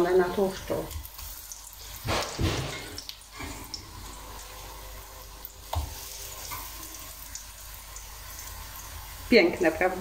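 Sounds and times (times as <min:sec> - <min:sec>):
potato pancakes sizzling in oil: 0:00.0 - 0:10.0.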